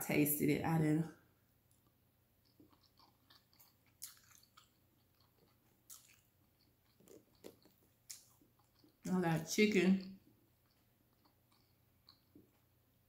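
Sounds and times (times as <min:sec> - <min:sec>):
faint chewing with mouth clicks: 0:01.6 - 0:13.0.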